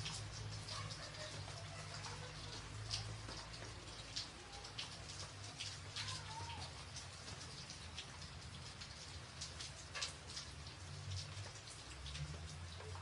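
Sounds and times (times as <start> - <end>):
rain on a tin roof: 0.0 - 13.0.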